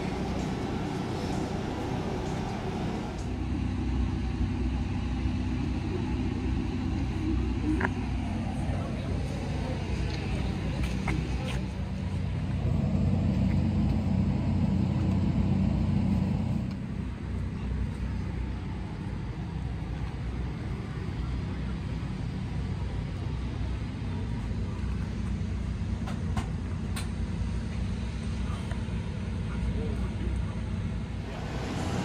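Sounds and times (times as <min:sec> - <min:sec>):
low engine rumble: 0:00.0 - 0:32.0.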